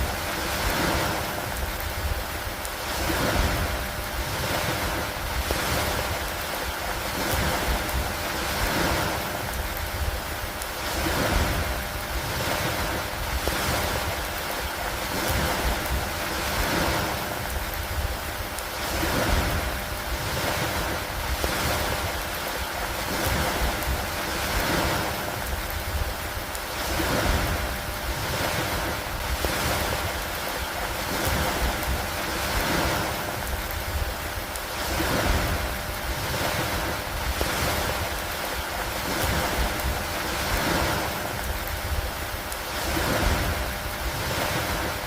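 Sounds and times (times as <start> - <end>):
lake water: 0.0 - 45.0
low rumble of wind: 0.0 - 45.0
steady rain falling: 0.0 - 45.0.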